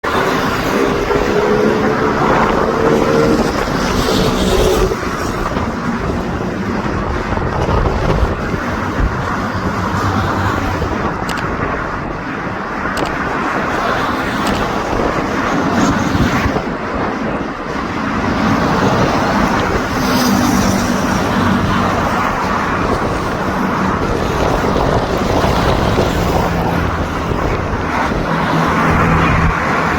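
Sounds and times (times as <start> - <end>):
airplane engine and airflow rush: 0.0 - 29.9.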